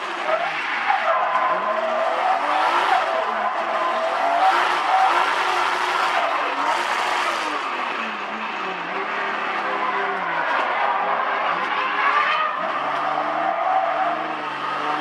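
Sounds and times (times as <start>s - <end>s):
turbocharged car engine revving: 0.0s - 15.0s
tyres skidding: 0.0s - 15.0s.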